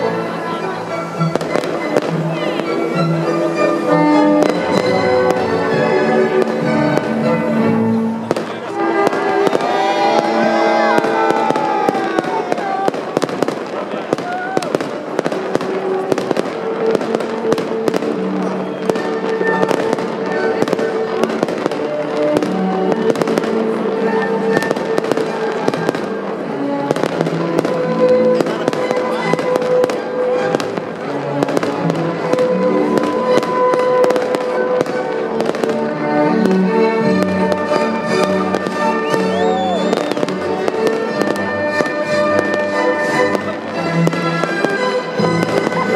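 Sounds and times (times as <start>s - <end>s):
fireworks bangs and crackles: 0.0s - 45.9s
waltz music: 0.0s - 45.9s.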